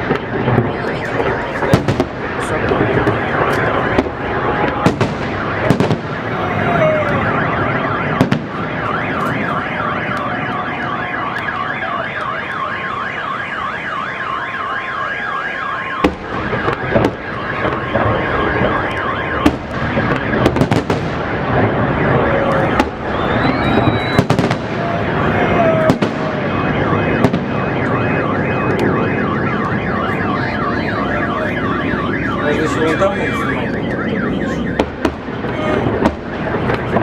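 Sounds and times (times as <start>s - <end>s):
rumble of distant explosions: 0.0s - 12.4s, 15.9s - 37.0s
car alarms warbling: 0.0s - 37.0s
fireworks bangs: 0.0s - 37.0s.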